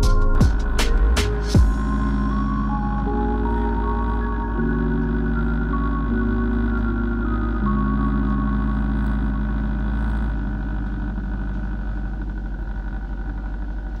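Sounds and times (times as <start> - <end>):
background music chords: 0.0 - 12.4
motorcycle engines running: 0.0 - 14.0.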